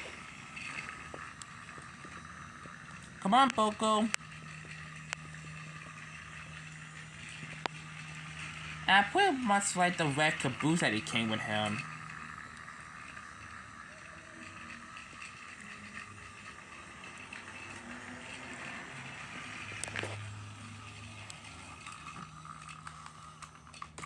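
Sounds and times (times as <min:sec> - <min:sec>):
toy train motor whir: 0:00.0 - 0:24.0
wheels clicking over track: 0:00.0 - 0:24.0.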